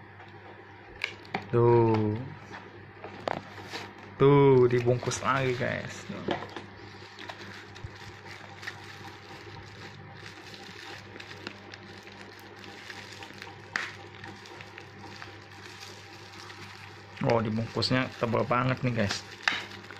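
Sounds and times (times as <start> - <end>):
steady low hum: 0.0 - 19.9
packaging crinkling and rustling: 3.1 - 19.9.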